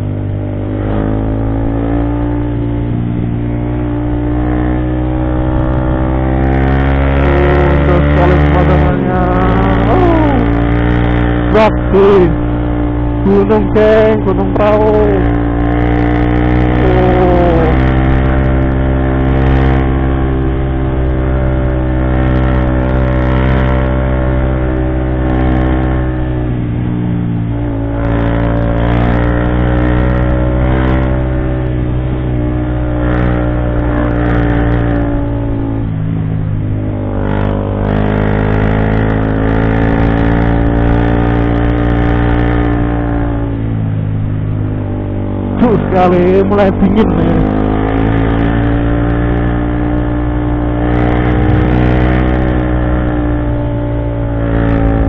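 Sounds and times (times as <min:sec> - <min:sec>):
motorcycle engine climbing: 0:00.0 - 0:55.0.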